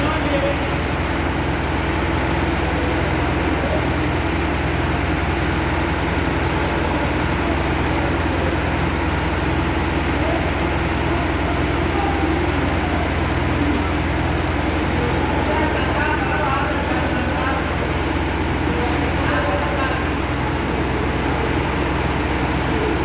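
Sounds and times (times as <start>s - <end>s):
heavy engine droning: 0.0s - 23.0s.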